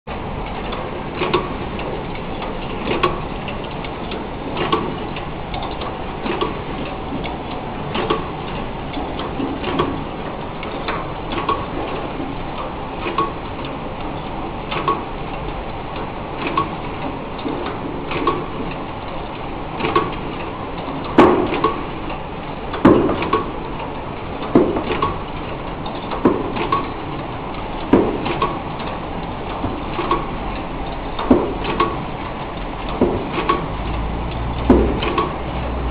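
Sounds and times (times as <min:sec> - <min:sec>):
machine clacks: 0:00.2 - 0:35.9
light machine ticks: 0:00.4 - 0:35.9.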